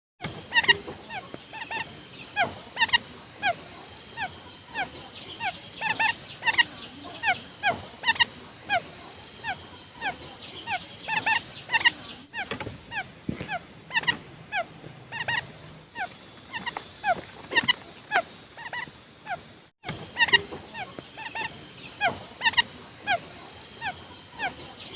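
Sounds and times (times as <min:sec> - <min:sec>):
quail calling: 0:00.3 - 0:24.9.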